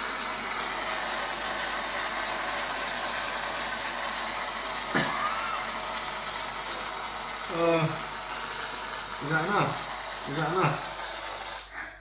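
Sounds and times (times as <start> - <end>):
aerosol can hissing: 0.0 - 11.9.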